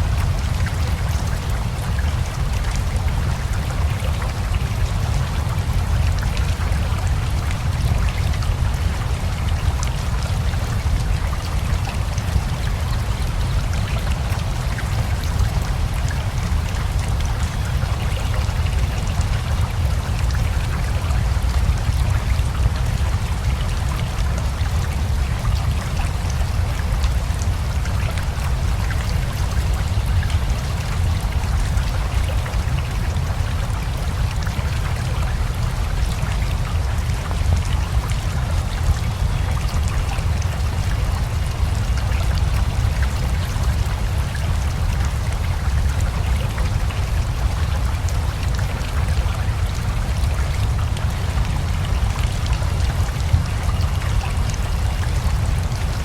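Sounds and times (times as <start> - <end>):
river flowing: 0.0 - 56.0
steady rain: 0.0 - 56.0.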